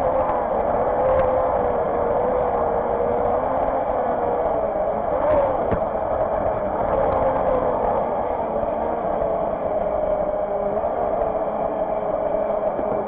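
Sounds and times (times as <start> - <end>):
model boat motor whine: 0.0 - 13.0.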